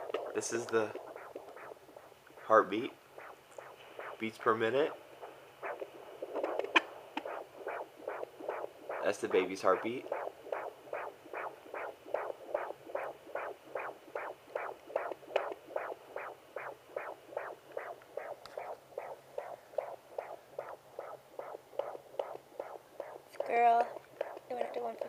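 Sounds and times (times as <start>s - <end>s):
fetal heartbeat through doppler: 0.0s - 25.0s.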